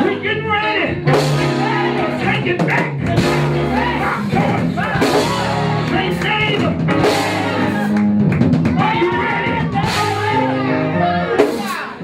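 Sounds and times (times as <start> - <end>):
church band playing gospel music: 0.0 - 12.0
drum kit: 1.0 - 12.0.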